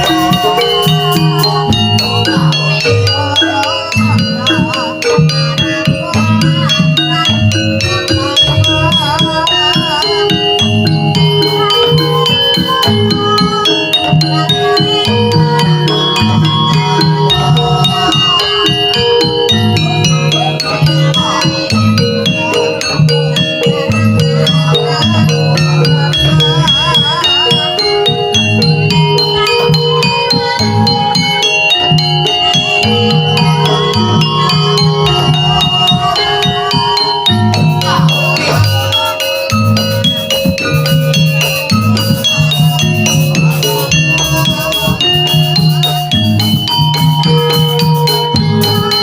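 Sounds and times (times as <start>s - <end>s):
gamelan music: 0.0s - 49.0s
metallophones playing quick notes: 0.0s - 49.0s
wavering melody line: 0.0s - 49.0s.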